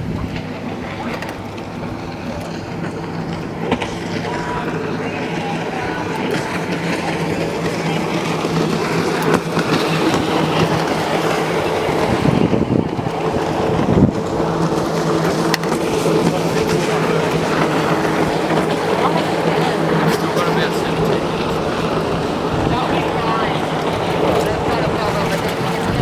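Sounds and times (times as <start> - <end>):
jet ski engine running: 0.0 - 26.0
wind and water rushing: 0.0 - 26.0.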